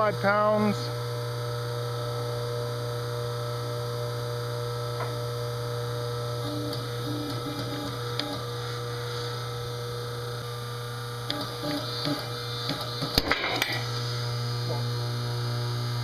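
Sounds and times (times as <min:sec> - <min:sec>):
steady low machine hum: 0:00.0 - 0:16.0.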